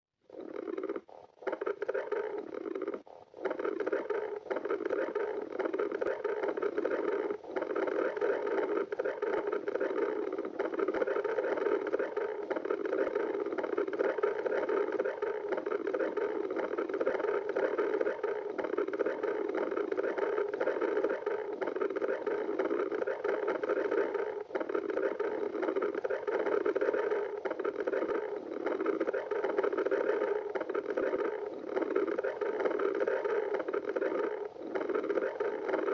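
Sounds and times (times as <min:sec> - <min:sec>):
stomach growling: 0:00.2 - 0:35.9.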